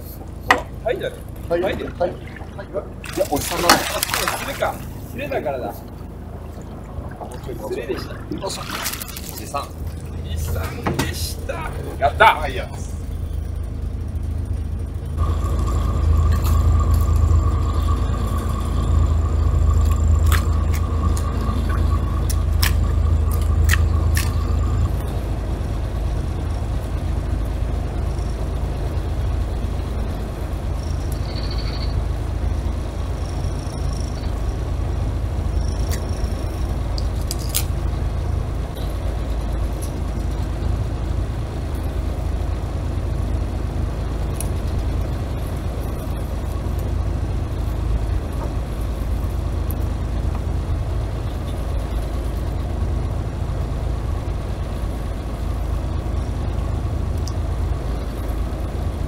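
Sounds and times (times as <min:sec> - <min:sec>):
boat engine rumbling: 0:00.0 - 0:59.0
high whine: 0:00.0 - 0:59.0.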